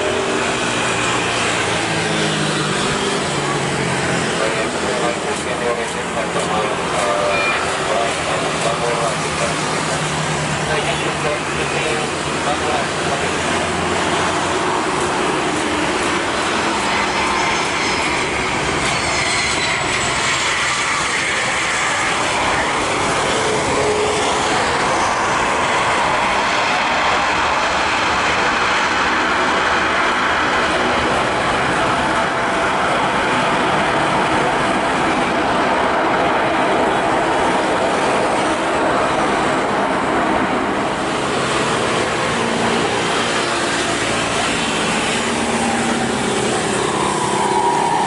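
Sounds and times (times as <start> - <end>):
jet airliner engines rushing: 0.0 - 48.0.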